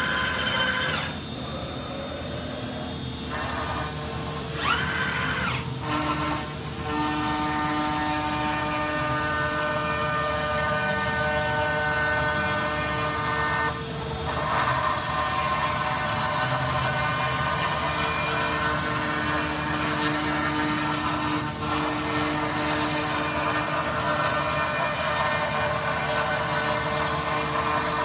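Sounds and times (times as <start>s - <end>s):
cnc machine whine: 0.0s - 28.0s.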